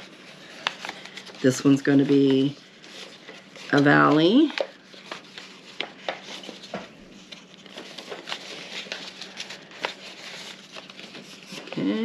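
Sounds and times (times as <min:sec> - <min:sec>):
paper folding and creasing: 0:00.0 - 0:12.0.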